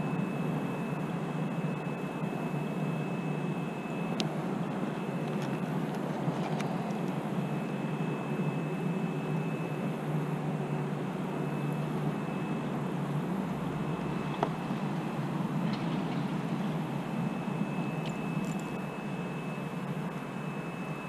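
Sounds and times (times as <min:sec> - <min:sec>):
low rumble of road traffic: 0:00.0 - 0:21.0
thin high whine: 0:00.0 - 0:21.0.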